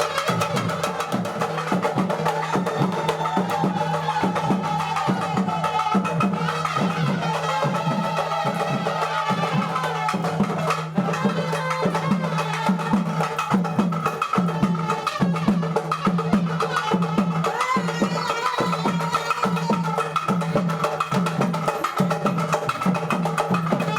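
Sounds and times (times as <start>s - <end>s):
folk music with hand drum: 0.0s - 23.9s.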